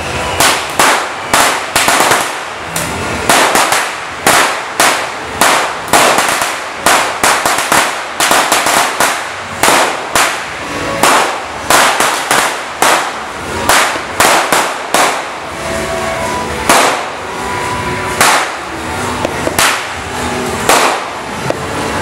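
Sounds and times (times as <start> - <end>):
string of firecrackers banging: 0.0 - 22.0.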